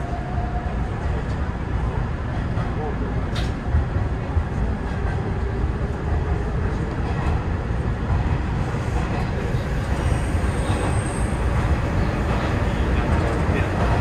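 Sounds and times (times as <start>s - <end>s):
train rumbling in a tunnel: 0.0s - 14.0s.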